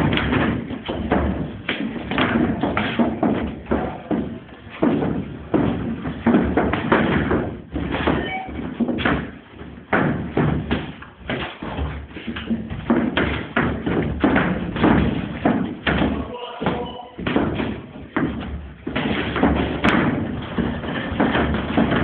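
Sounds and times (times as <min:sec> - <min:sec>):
gloved punches thumping: 0:00.0 - 0:22.0.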